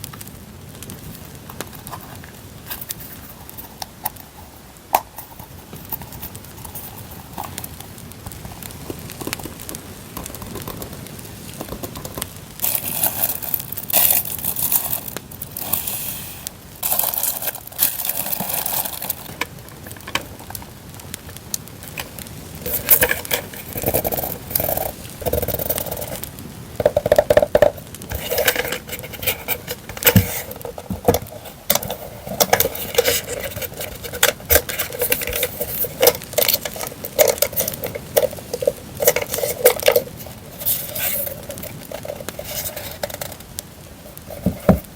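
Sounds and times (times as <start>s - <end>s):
campfire crackling: 0.0s - 44.9s
packaging rustling and tearing: 0.9s - 44.9s.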